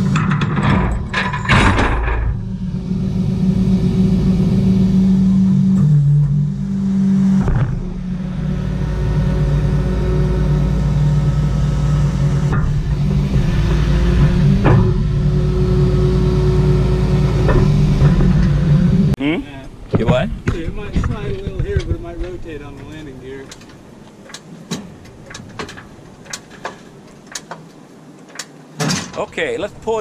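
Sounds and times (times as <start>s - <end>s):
vehicle engine idling: 2.3s - 27.8s.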